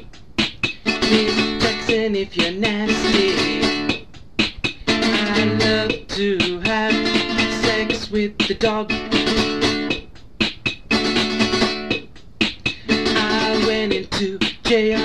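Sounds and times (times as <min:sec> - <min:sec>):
song with guitar and beat: 0:00.0 - 0:15.0.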